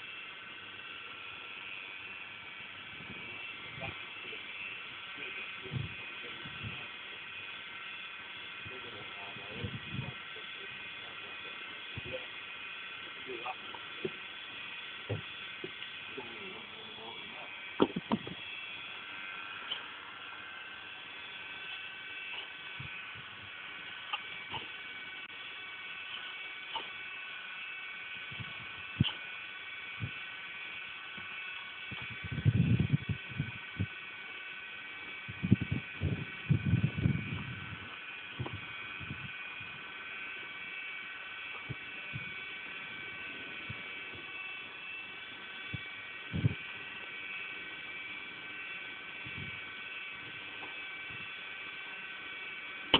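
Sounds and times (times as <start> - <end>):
electric cement mixer running: 0.0 - 52.9.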